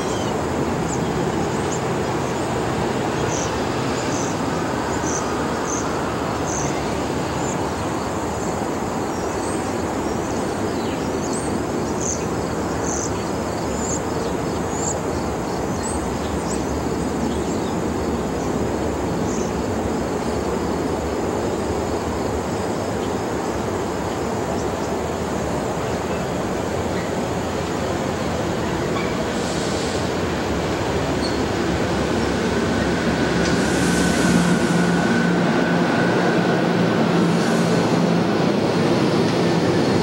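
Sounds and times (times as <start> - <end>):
insects chirping: 0.0 - 40.0
train wheels rumbling: 0.0 - 40.0.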